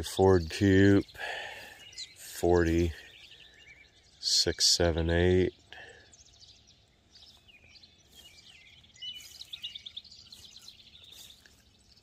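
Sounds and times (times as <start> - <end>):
faint outdoor hiss: 0.0 - 12.0
songbirds chirping: 0.0 - 12.0.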